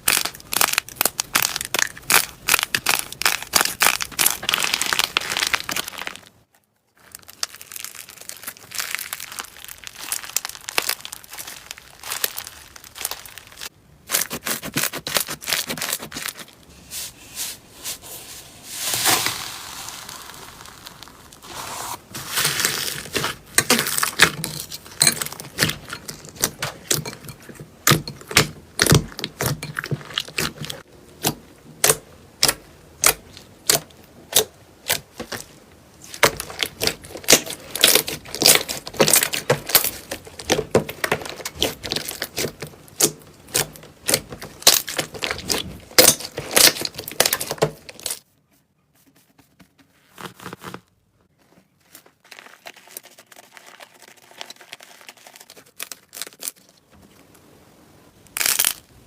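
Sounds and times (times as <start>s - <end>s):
crunchy slime crackling and popping: 0.0s - 16.6s, 19.0s - 21.6s, 22.2s - 48.2s, 52.1s - 56.9s, 58.3s - 59.0s
slime squishing: 0.0s - 18.0s, 18.7s - 48.2s, 51.8s - 56.8s.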